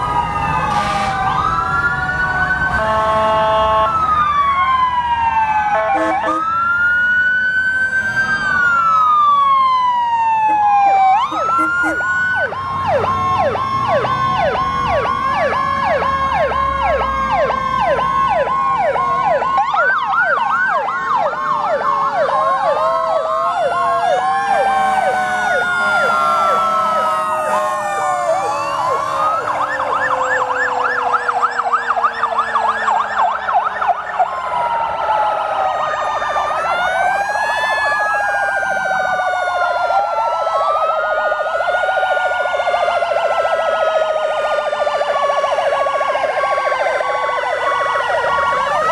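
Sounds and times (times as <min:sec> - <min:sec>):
fire truck sirens: 0:00.0 - 0:48.9.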